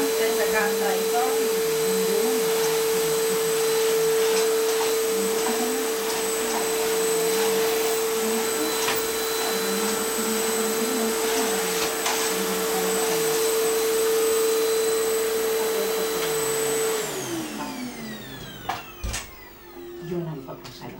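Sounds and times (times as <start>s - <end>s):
vacuum cleaner motor whine: 0.0s - 20.9s.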